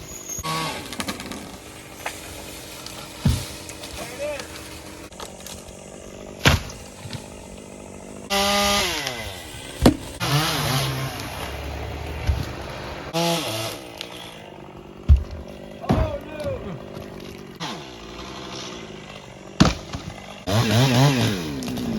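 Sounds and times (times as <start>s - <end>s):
chainsaw revving: 0.2s - 21.9s.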